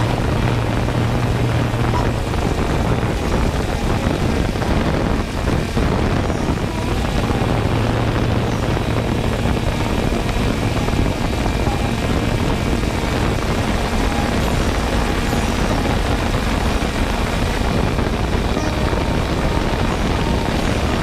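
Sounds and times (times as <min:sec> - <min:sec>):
drone propellers humming: 0:00.0 - 0:21.0.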